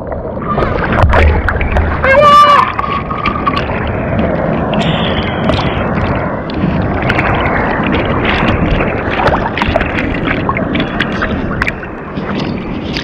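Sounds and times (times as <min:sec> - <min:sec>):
water splashing against surfboard: 0:00.0 - 0:13.0.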